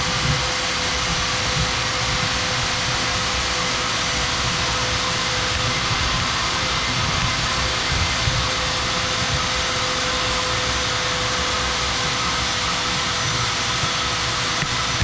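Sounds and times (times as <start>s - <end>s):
motor moving air drone: 0.0s - 15.0s.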